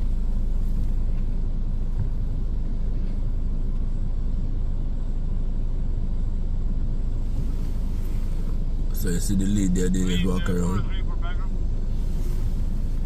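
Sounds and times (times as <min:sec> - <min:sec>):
low rumble in vehicle cabin: 0:00.0 - 0:13.0.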